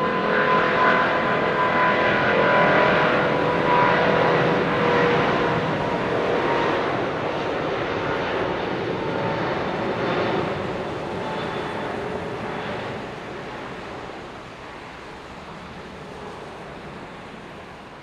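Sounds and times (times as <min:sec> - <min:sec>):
jet engines roaring with fan whine: 0:00.0 - 0:18.0.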